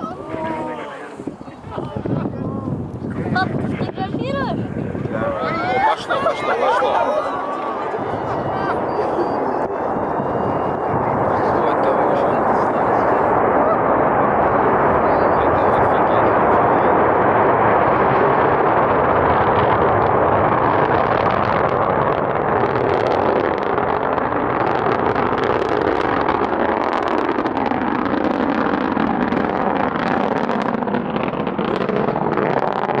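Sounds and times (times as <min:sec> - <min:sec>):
rocket engines roaring: 0:00.0 - 0:33.0.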